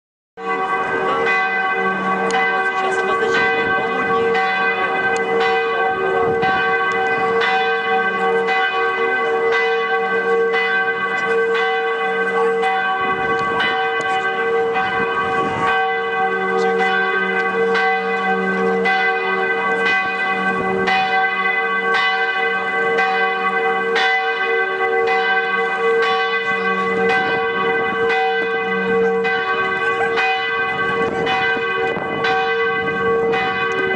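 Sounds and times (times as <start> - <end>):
church bells pealing: 0.4 - 33.9.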